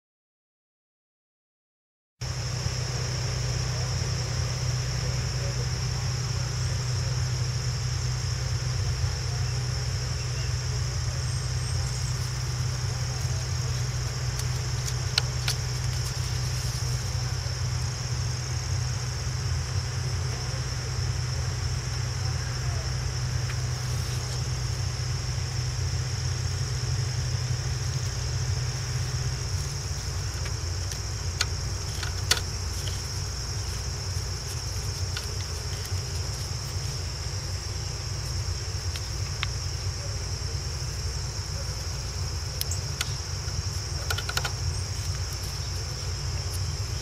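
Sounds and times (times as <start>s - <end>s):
car engine idling: 2.2s - 47.0s.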